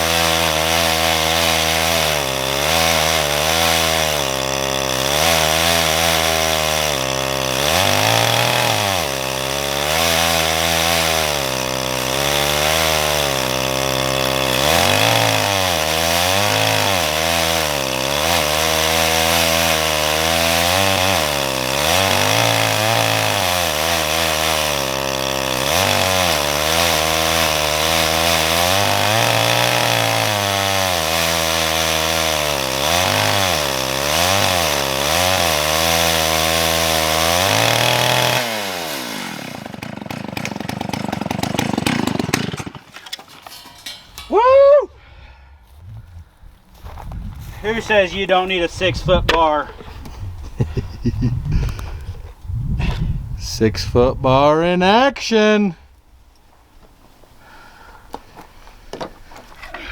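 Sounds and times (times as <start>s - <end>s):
chainsaw cutting log: 0.0s - 56.2s, 56.8s - 59.9s.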